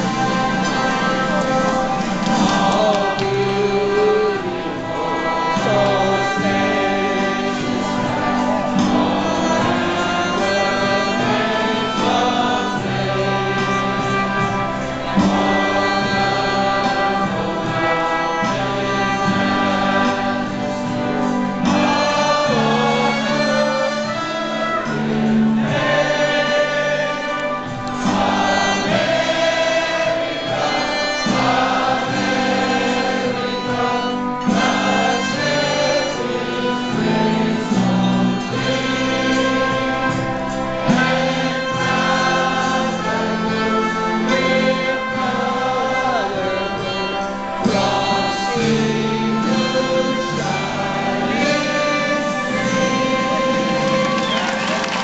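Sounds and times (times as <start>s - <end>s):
instrumental accompaniment: 0.0s - 55.0s
waiters singing as choir: 0.0s - 55.0s.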